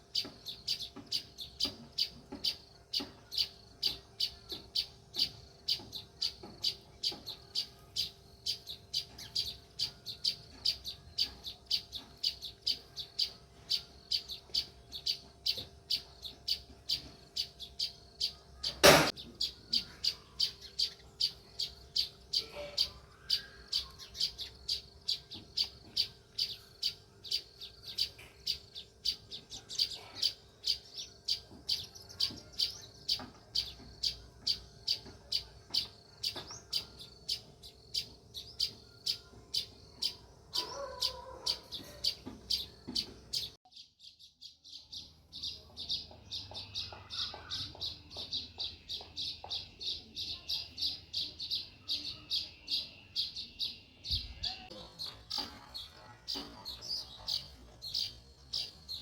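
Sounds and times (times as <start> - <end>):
sparrow chirping: 0.0 - 59.0.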